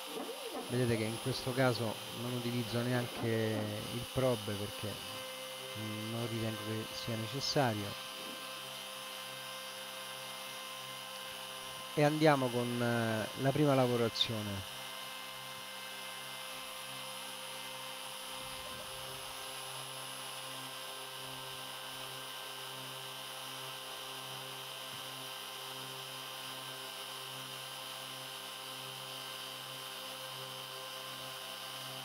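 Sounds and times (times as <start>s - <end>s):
router spindle cutting wood: 0.0s - 32.0s.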